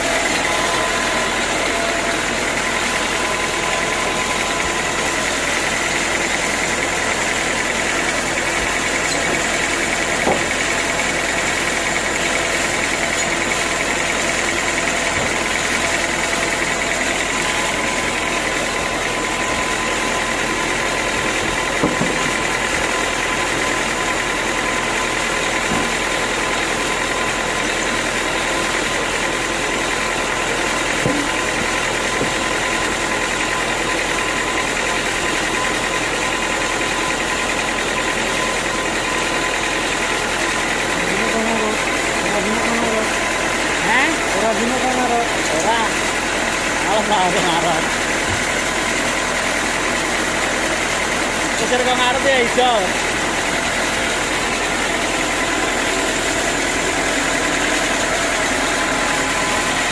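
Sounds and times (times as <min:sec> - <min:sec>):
sawmill machinery whine: 0:00.0 - 0:59.9.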